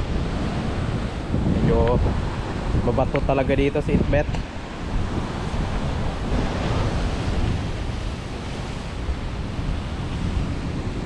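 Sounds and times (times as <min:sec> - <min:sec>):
surf breaking on rocks: 0:00.0 - 0:11.0
wind buffeting microphone: 0:00.0 - 0:11.0.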